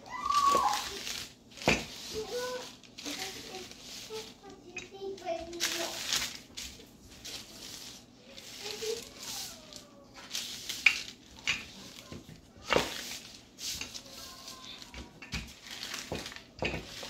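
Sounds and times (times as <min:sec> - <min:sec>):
paper rustling and crinkling: 0:00.1 - 0:17.0.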